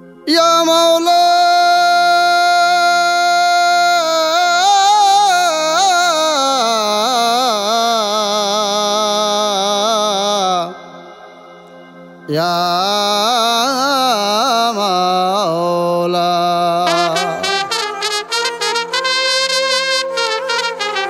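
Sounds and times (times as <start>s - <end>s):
person singing ornamented melody: 0.0s - 21.0s.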